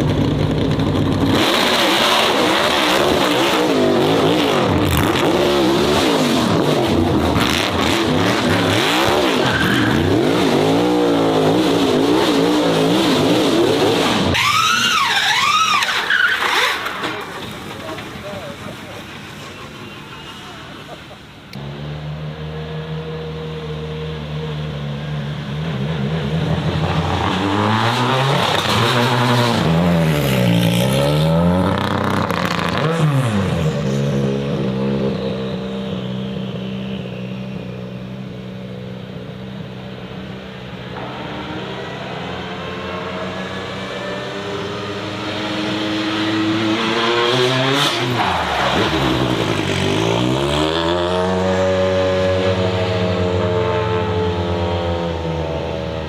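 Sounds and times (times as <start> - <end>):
racing car engine revving: 0.6 - 17.2, 21.5 - 37.4, 40.6 - 56.0.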